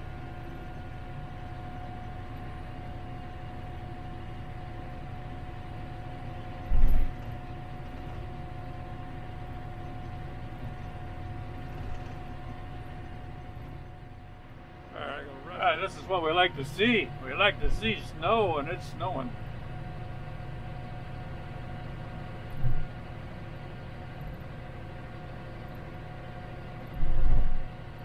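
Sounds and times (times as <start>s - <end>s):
steady whine: 0.0s - 28.0s
tractor engine running: 0.0s - 28.0s.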